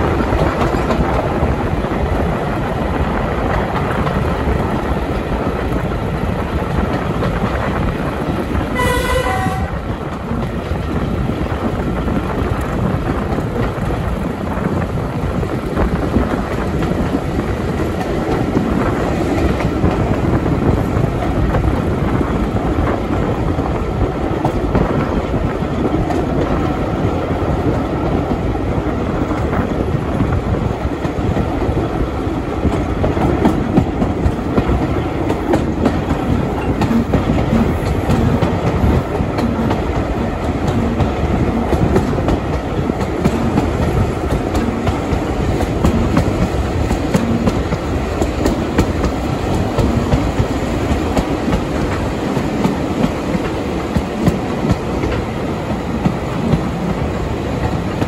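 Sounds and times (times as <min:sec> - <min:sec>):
train rumbling: 0:00.0 - 0:58.0
wheels clicking over rail joints: 0:00.0 - 0:58.0.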